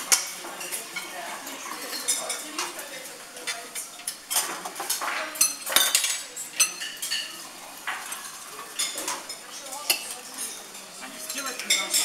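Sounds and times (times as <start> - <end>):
cutlery clinking on plates: 0.0 - 12.0.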